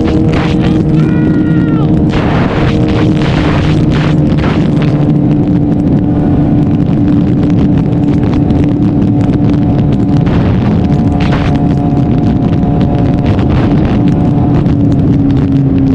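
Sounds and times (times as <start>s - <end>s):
motorcycle engine running: 0.0s - 15.9s
wind buffeting microphone: 0.0s - 15.9s.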